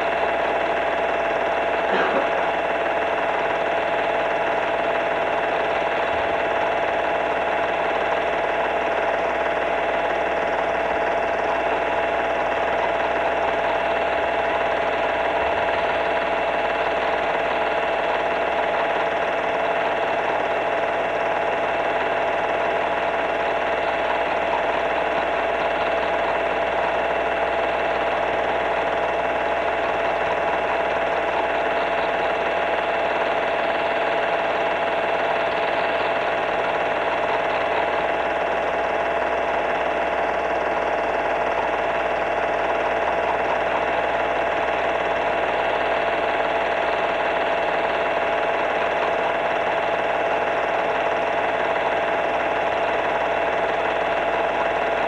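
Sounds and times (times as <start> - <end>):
film projector whirring: 0.0 - 55.0
projector hum: 0.0 - 55.0.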